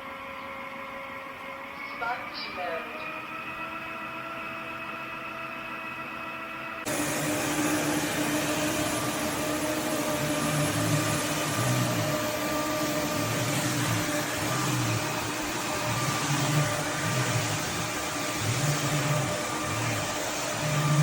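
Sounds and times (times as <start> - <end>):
vacuum motor whine: 0.0 - 21.0.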